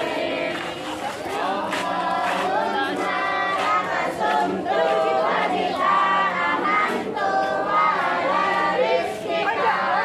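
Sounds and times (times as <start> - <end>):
group chanting a prayer: 0.0 - 10.0.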